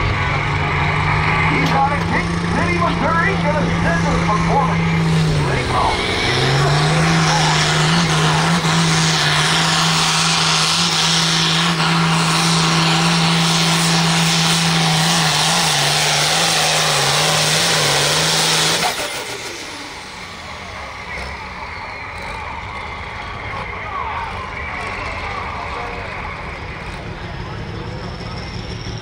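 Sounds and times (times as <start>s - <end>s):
tractor diesel engine at full throttle: 0.0s - 29.0s.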